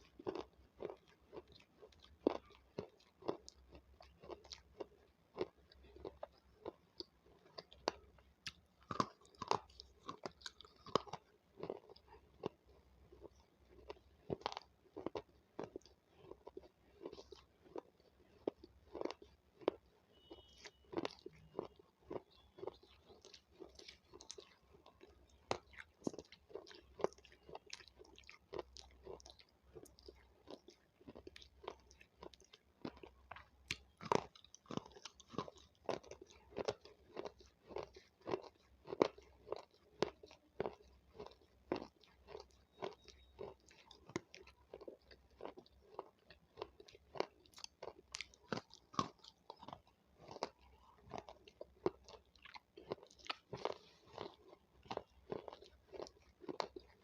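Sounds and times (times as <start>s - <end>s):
crisp wet chewing crunches: 0.0s - 57.0s.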